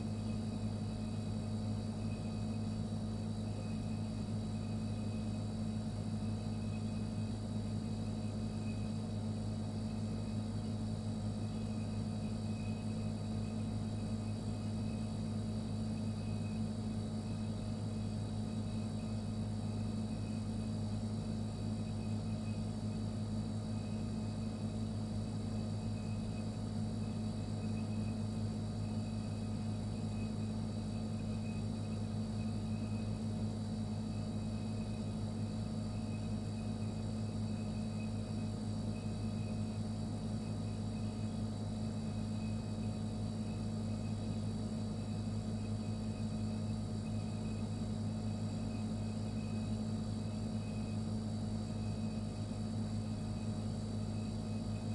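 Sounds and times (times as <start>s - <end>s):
faint high whine: 0.0s - 54.9s
refrigerator humming: 0.0s - 54.9s.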